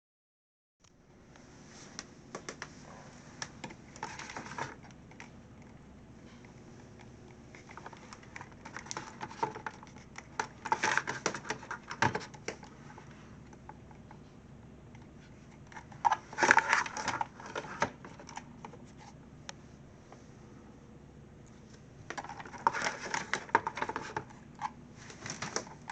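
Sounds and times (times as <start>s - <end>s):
faint steady hum: 0.8s - 25.9s.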